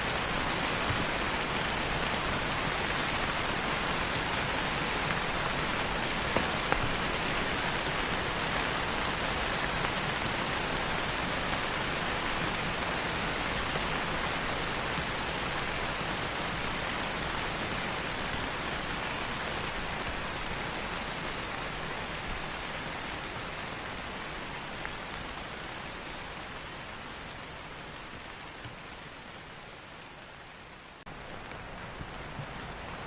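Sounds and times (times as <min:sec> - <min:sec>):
rain falling on leaves: 0:00.0 - 0:33.0.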